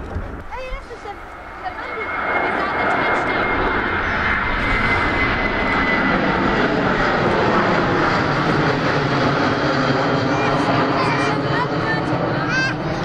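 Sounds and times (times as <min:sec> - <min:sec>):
high jet whine: 0:00.0 - 0:13.0
jet engine roar: 0:00.0 - 0:13.0.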